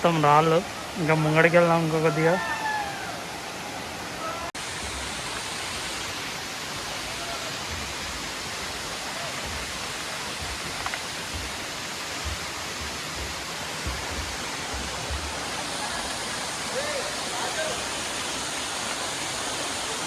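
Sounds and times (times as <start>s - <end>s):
waterfall pouring onto rocks: 0.0s - 3.5s, 4.2s - 20.0s.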